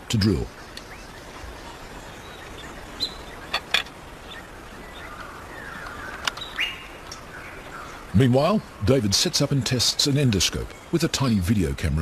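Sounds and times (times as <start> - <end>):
steady outdoor background: 0.0 - 12.0
birds chirping and calling: 0.1 - 12.0.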